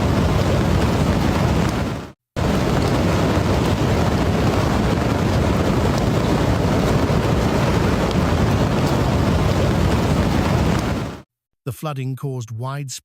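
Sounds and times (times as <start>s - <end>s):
floodwater rushing: 0.0s - 11.2s
wind buffeting microphone: 0.0s - 11.2s.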